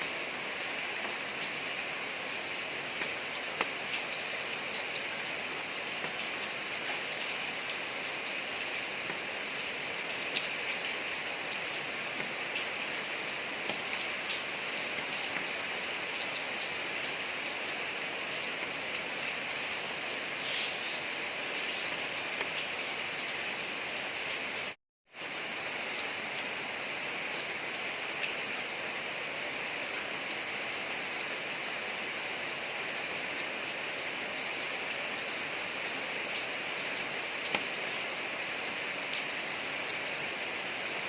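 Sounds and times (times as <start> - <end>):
rain falling on a street: 0.0 - 41.0.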